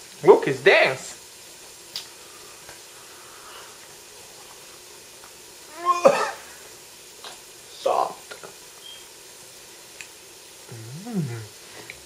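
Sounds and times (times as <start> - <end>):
steady faint hiss: 0.0 - 12.0.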